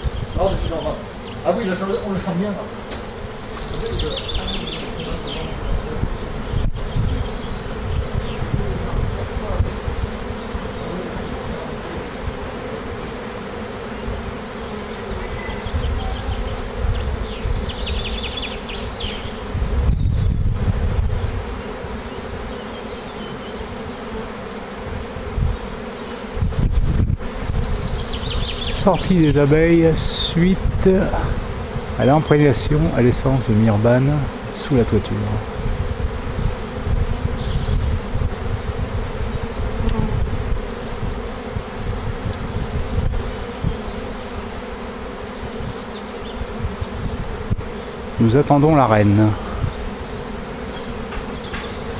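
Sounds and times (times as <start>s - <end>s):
honeybees buzzing: 0.0s - 51.9s.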